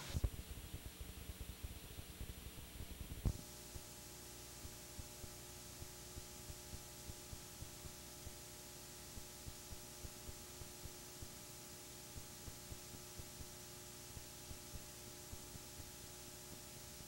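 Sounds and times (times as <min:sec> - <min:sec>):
tape hiss: 0:00.0 - 0:17.0.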